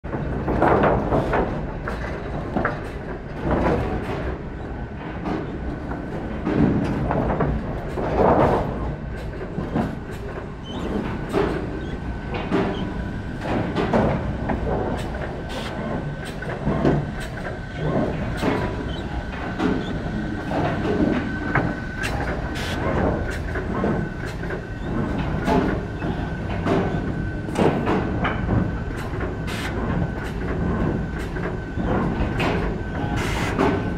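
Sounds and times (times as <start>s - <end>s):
machine rumble: 0.0s - 33.9s
planks clattering on conveyors: 0.1s - 33.9s.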